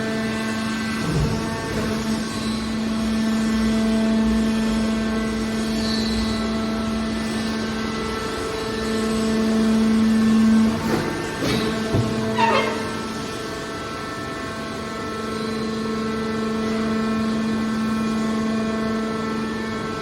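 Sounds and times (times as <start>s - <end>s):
hydraulic baler humming: 0.0s - 20.0s.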